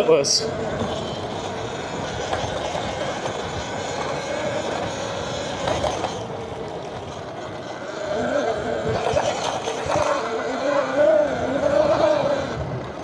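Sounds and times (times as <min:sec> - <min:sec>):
electric motor whine: 0:00.0 - 0:13.0
rushing wind: 0:00.0 - 0:13.0.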